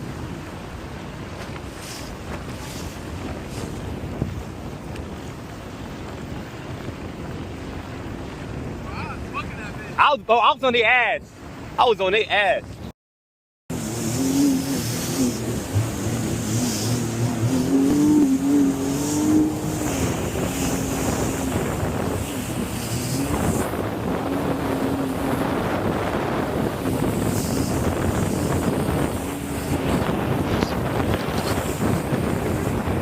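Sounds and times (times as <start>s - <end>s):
wind buffeting microphone: 0.0s - 10.3s, 13.7s - 33.0s
jet ski engine running: 0.0s - 12.9s, 13.7s - 33.0s.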